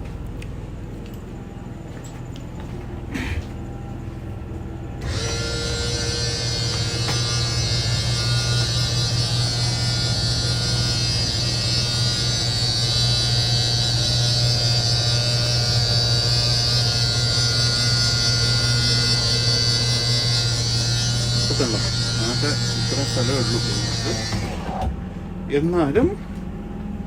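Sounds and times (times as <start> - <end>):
electric motor humming and whining: 0.0 - 27.0.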